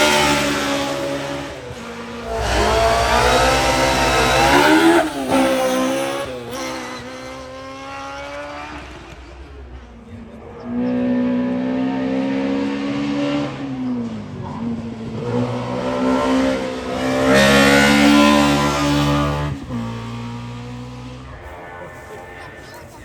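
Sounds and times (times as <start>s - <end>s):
race car engine at high revs: 0.0s - 23.0s.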